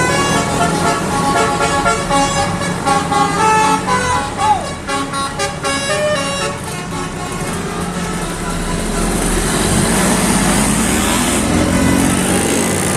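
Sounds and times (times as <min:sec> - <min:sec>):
bus musical horn: 0:00.0 - 0:12.7
bus engine: 0:00.0 - 0:12.9
road noise: 0:00.0 - 0:12.9.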